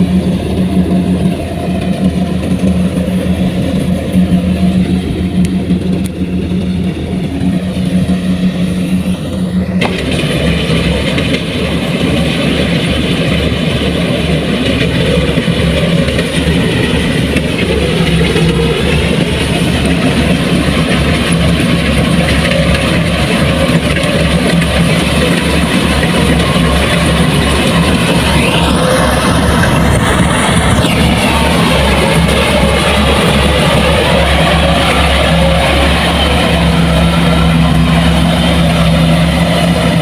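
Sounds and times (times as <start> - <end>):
large machine engine throbbing: 0.0 - 40.0.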